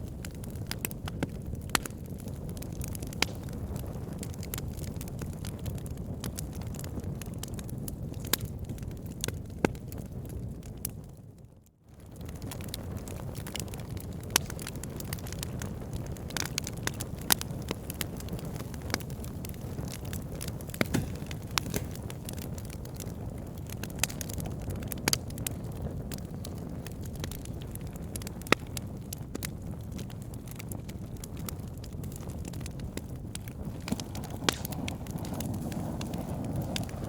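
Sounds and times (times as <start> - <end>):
fire flames rushing: 0.0 - 7.4, 12.2 - 37.0
logs crackling and popping: 0.0 - 37.0.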